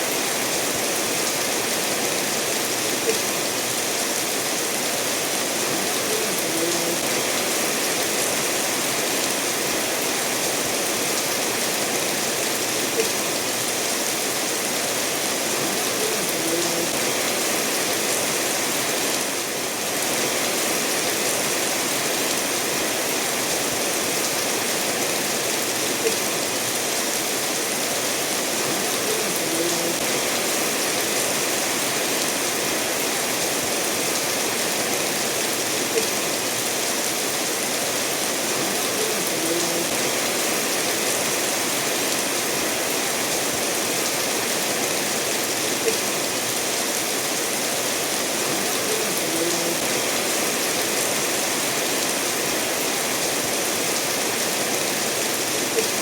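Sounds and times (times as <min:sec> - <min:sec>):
steady rainfall: 0:00.0 - 0:56.0
stream flowing over stones: 0:00.0 - 0:56.0.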